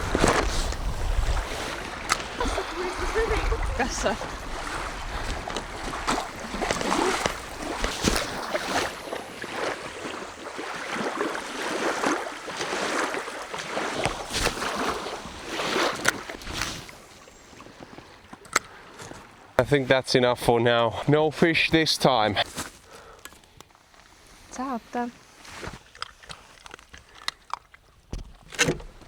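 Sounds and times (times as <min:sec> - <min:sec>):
lake water splashing and lapping: 0:00.0 - 0:29.0.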